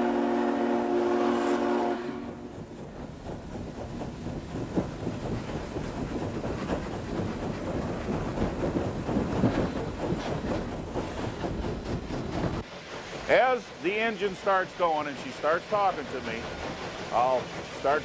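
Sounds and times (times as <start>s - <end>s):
steam locomotive rumble and hiss: 0.0s - 18.0s.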